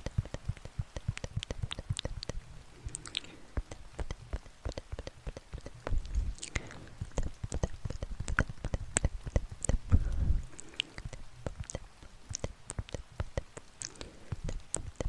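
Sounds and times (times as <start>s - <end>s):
sharp clicks and crackles: 0.0s - 15.0s.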